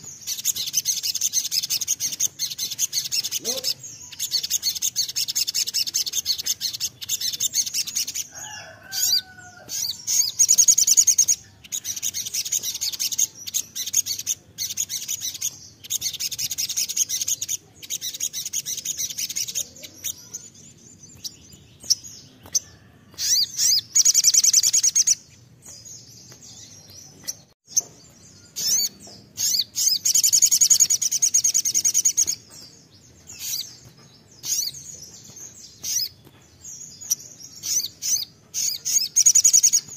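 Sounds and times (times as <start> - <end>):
sunbird singing trills: 0.0 - 39.9.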